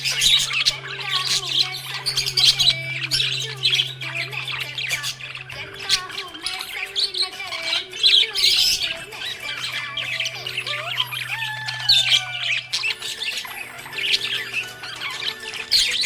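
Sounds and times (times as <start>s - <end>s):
budgies chirping and squawking: 0.0s - 16.0s.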